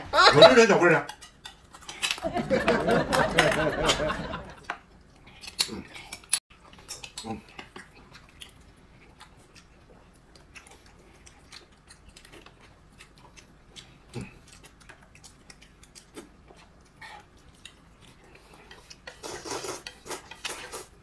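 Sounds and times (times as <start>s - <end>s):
chewing: 1.1s - 2.2s, 4.6s - 21.0s.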